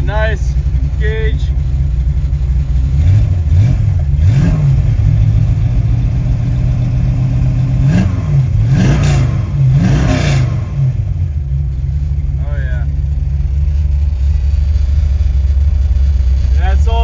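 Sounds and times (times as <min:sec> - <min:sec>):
engine idling with throttle revs: 0:00.0 - 0:17.0.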